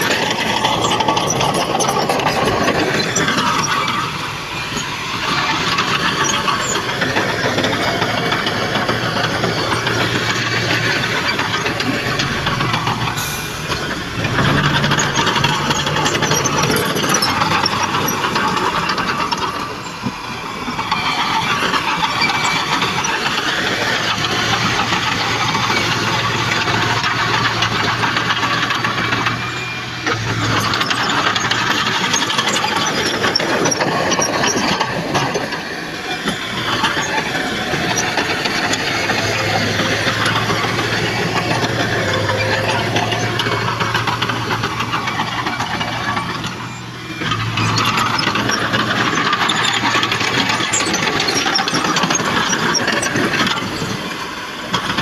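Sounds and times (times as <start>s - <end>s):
diesel engine running: 0.0s - 55.0s
heavy machinery metallic clatter: 0.0s - 55.0s.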